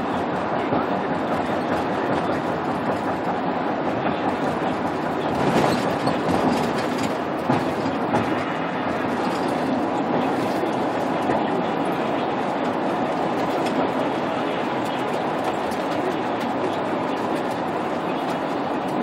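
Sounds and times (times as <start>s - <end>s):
vehicle road noise rumble: 0.0s - 19.0s.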